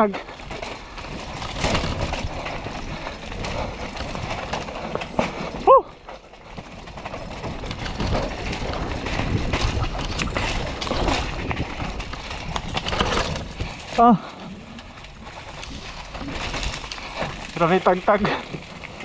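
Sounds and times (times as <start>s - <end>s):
mountain bike rattling over dirt: 0.0s - 19.0s.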